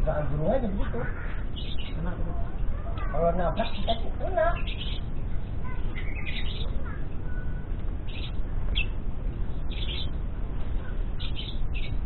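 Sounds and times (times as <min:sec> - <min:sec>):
low background rumble: 0:00.0 - 0:12.0
bird chirping: 0:00.8 - 0:12.0.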